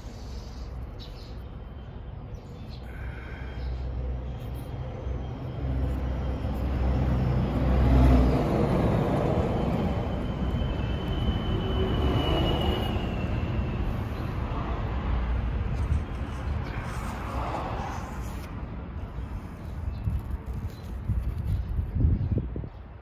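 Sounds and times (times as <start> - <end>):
passing vehicle rumble: 2.9 - 21.6.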